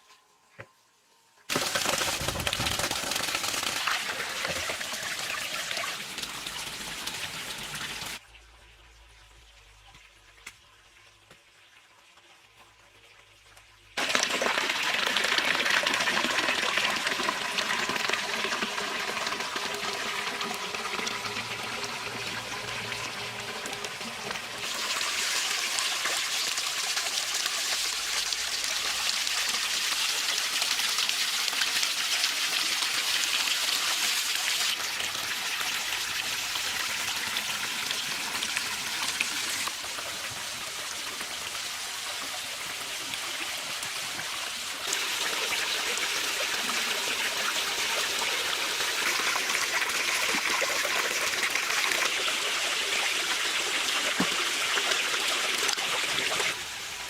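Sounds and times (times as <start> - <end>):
small waterfall pouring: 1.5 - 8.4, 14.0 - 57.0.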